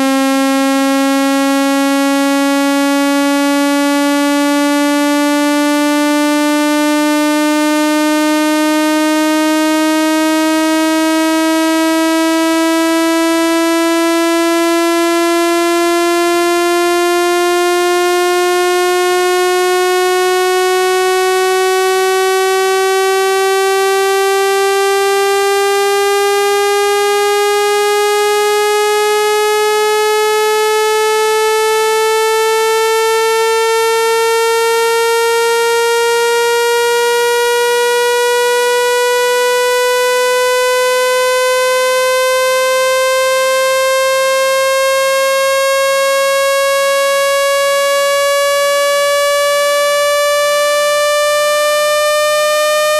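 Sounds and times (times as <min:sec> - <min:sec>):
electronic buzz rising in pitch: 0:00.0 - 0:52.9.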